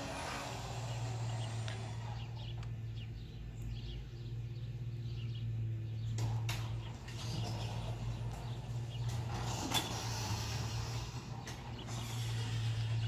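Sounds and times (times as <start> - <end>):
birds chirping faintly: 0.0 - 13.0
garage door opener humming: 0.0 - 13.0.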